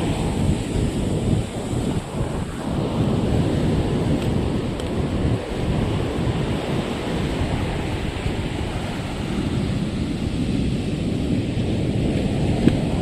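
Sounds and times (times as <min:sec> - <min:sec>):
surf washing: 0:00.0 - 0:13.0
wind rumble on microphone: 0:00.0 - 0:13.0.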